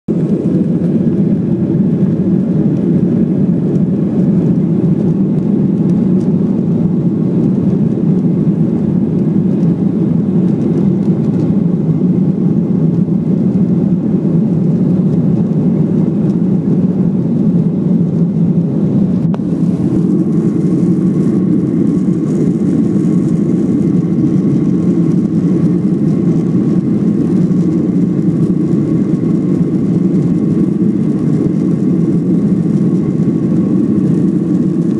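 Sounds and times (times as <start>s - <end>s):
jet engines rumbling in cabin: 0.1s - 34.9s.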